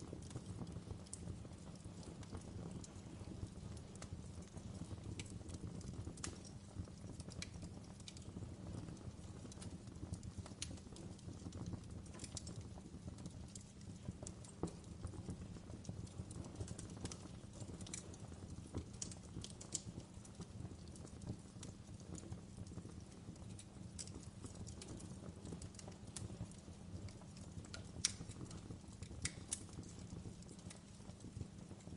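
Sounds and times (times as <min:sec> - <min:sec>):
fire crackling and popping: 0:00.0 - 0:31.9
wood fire rumbling: 0:00.0 - 0:31.9.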